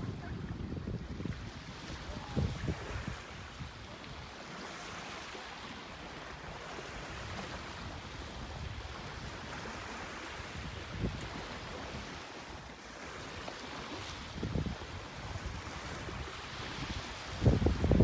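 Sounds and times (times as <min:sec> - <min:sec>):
small waves washing onto shore: 0:00.0 - 0:18.0
wind buffeting microphone: 0:00.0 - 0:18.0.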